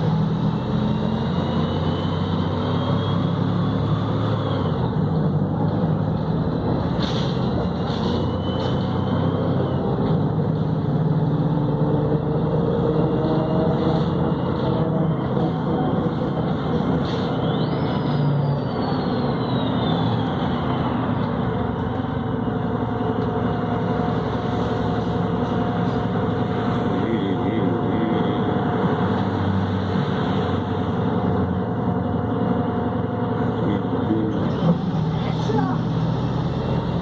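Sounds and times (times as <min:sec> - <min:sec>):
bus diesel engine running: 0:00.0 - 0:37.0.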